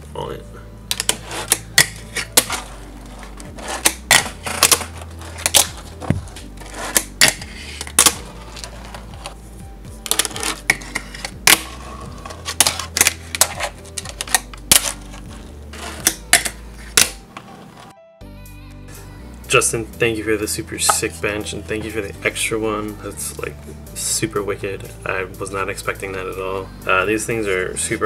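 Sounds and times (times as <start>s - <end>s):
quiet background music: 0.0s - 28.0s.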